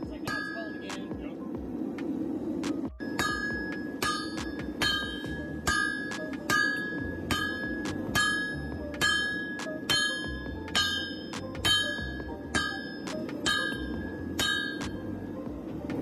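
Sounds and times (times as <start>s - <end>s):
hammer striking metal on anvil: 0.0s - 1.2s, 3.0s - 15.0s.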